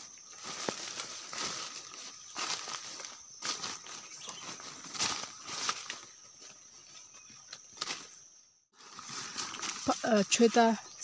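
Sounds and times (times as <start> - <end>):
brushing past dry undergrowth: 0.0 - 8.2, 8.8 - 11.0
footsteps crunching dry leaves: 0.0 - 8.2, 8.8 - 11.0.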